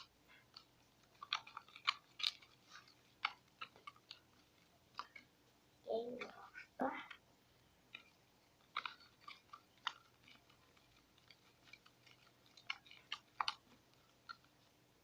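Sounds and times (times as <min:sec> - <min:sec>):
sticky slime squelching: 0:00.0 - 0:15.0.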